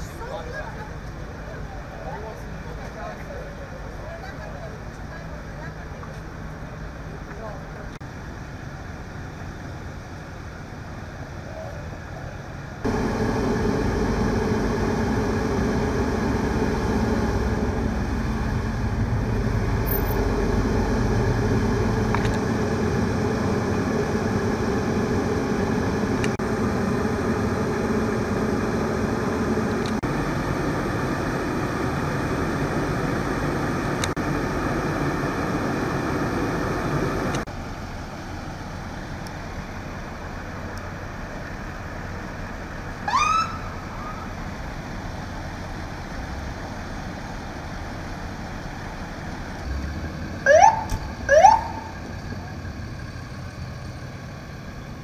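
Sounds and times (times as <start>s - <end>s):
vehicle engines idling: 0.0s - 55.0s.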